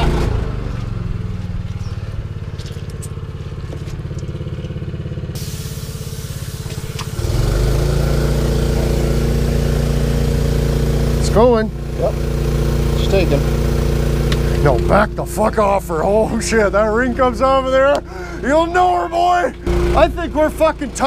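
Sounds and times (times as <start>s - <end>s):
air compressor engine running: 0.0s - 21.0s.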